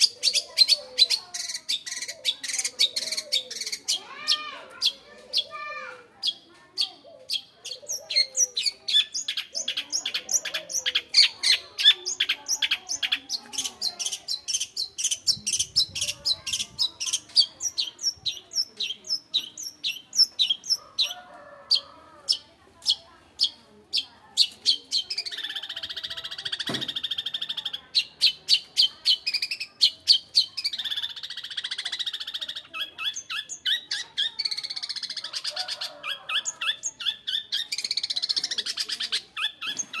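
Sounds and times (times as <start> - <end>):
bird sharp repeated chirps: 0.0 - 20.8, 22.3 - 35.5, 36.4 - 40.0
bird scratchy chattering song: 0.0 - 21.1, 21.7 - 40.0.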